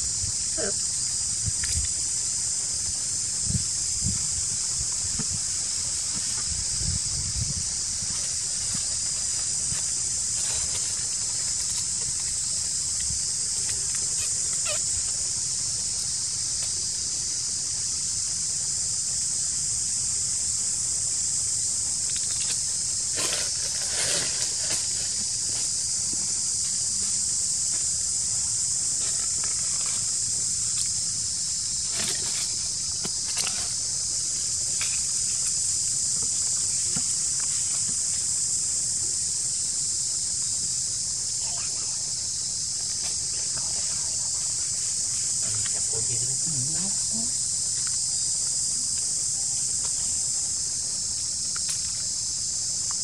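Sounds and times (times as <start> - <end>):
insect chorus drone: 0.0 - 53.0.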